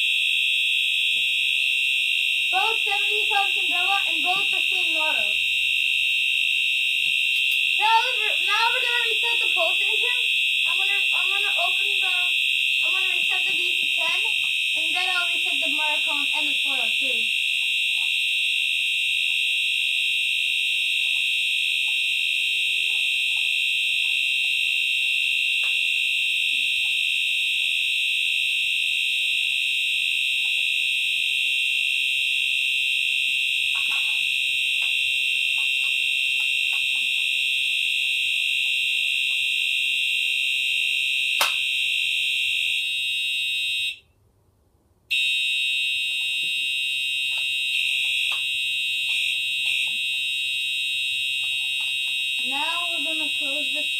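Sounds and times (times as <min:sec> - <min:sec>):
fire alarm horn tone: 0:00.0 - 0:44.1, 0:45.1 - 0:53.9.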